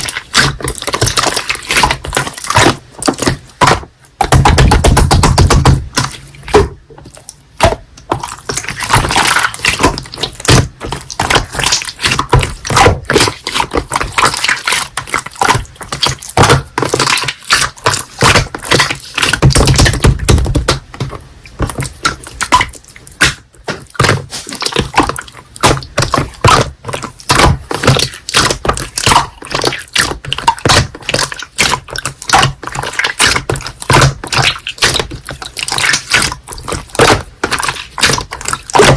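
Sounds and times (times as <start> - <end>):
slime squelching and popping: 0.0 - 38.9.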